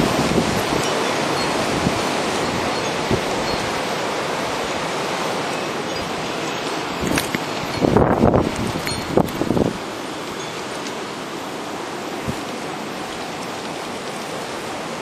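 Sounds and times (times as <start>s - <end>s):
wind blowing hard: 0.0s - 10.5s, 11.1s - 15.0s.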